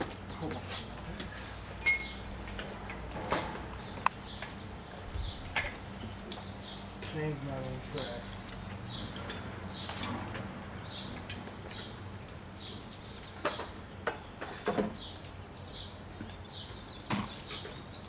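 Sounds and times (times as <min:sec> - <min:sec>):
bird chirping: 0:00.4 - 0:18.0.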